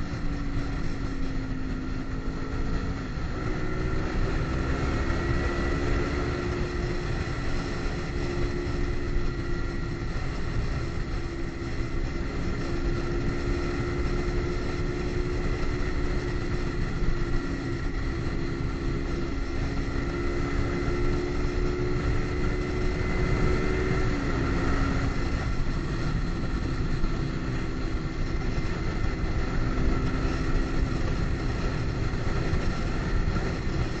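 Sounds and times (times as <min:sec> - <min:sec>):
motorcycle engine drone: 0:00.0 - 0:34.0
wind and road noise: 0:00.0 - 0:34.0.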